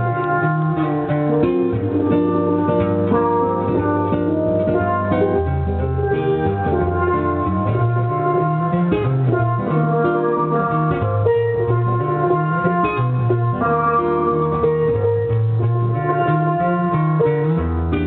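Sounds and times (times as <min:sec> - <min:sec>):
bass line: 0:00.0 - 0:18.0
guitar accompanying: 0:00.0 - 0:18.0
steelpan melody: 0:00.0 - 0:18.0.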